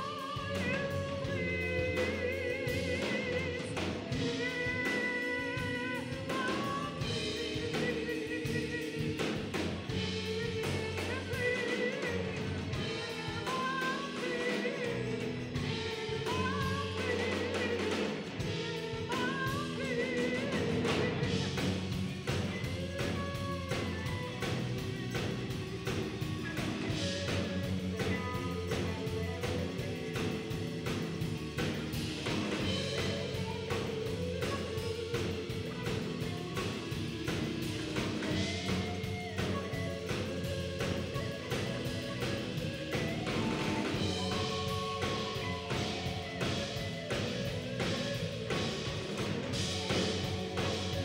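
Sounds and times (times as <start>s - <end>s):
drum kit: 0.0s - 51.0s
electric bass guitar: 0.0s - 51.0s
electric guitar: 0.0s - 51.0s
keyboard: 0.0s - 51.0s.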